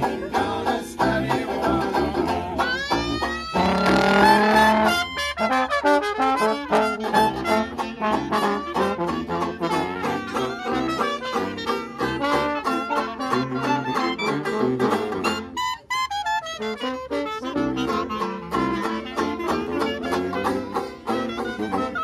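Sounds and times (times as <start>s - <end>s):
jazz band playing: 1.2s - 22.0s
trombone: 1.8s - 15.8s, 16.6s - 22.0s
trumpet: 2.2s - 22.0s.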